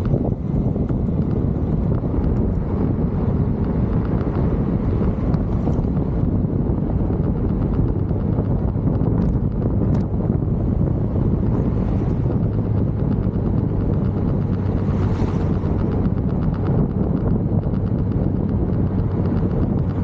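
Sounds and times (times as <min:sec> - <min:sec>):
vehicle rumble: 0:00.0 - 0:20.0
wind buffeting microphone: 0:00.0 - 0:20.0.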